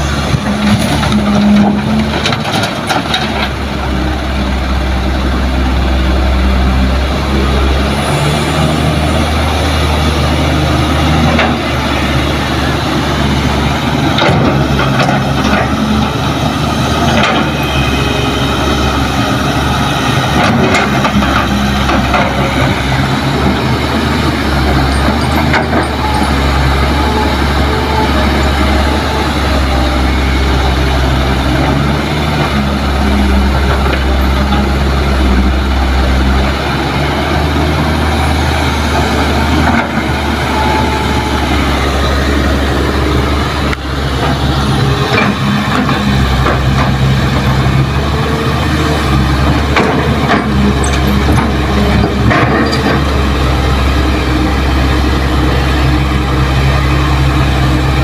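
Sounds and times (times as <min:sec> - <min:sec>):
excavator diesel engine under load: 0:00.0 - 0:58.0.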